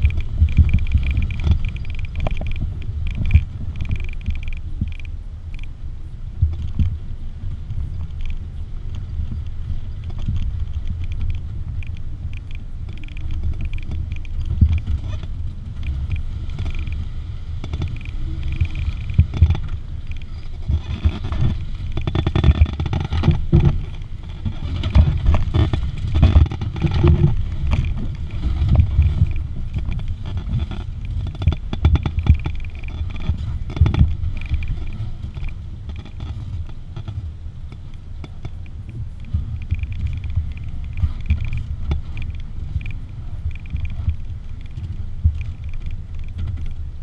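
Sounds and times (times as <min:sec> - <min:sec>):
off-road vehicle engine running: 0:00.0 - 0:47.0
vehicle body knocking and rattling: 0:06.4 - 0:47.0.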